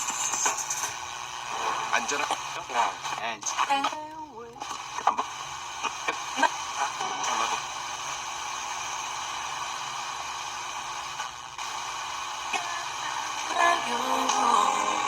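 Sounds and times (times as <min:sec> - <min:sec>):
radio static hiss: 0:00.0 - 0:15.0
radio tuning clicks: 0:00.0 - 0:15.0.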